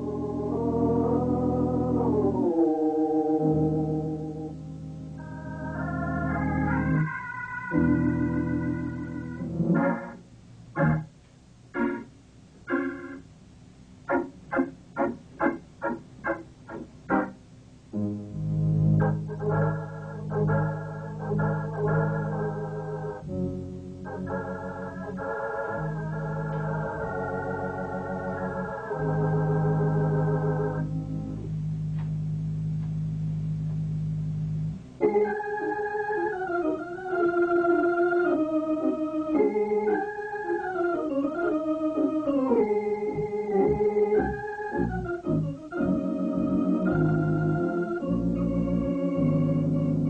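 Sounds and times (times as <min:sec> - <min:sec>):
organ music: 0:00.0 - 0:50.0.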